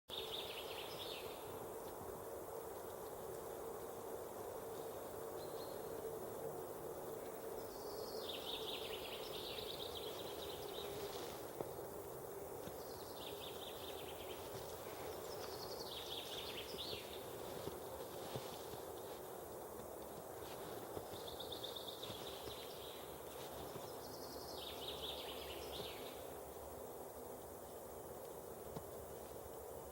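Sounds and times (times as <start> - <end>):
steady background hiss: 0.1 - 29.9.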